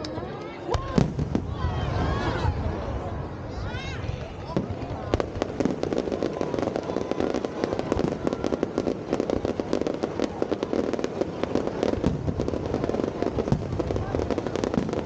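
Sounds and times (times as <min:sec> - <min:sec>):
fireworks popping and banging: 0:00.0 - 0:01.6, 0:04.1 - 0:15.0.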